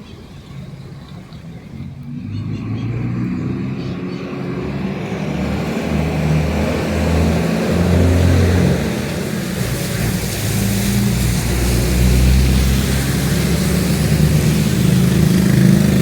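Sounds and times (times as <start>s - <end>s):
tyre hiss and traffic: 0.0s - 16.0s
vehicle engine droning: 0.0s - 16.0s.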